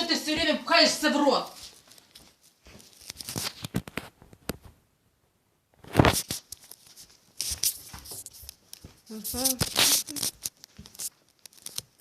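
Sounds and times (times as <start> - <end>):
rustling and crinkling handling: 1.4 - 4.8, 5.8 - 12.0.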